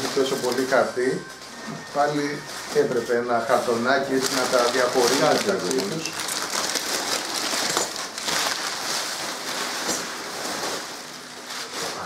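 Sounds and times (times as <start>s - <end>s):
packing paper rustling and crinkling: 0.0s - 12.0s.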